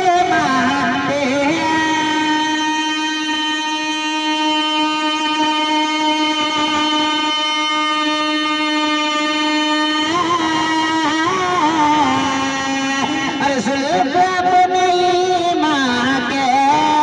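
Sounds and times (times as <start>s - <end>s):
man singing held note: 0.0s - 17.0s.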